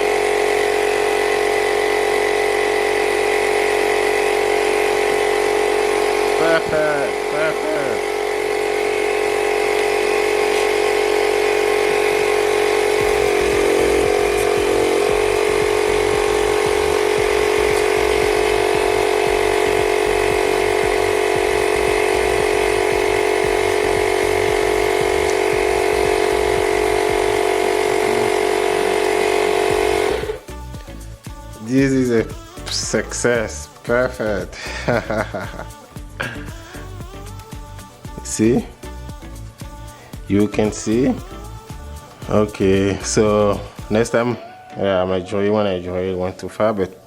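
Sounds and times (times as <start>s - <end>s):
air compressor humming: 0.0s - 44.7s.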